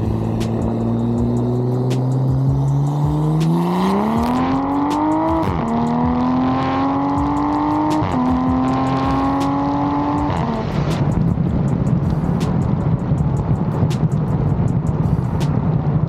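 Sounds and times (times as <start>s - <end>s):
car engine accelerating: 0.0s - 16.0s
exhaust crackling burble: 0.0s - 16.0s.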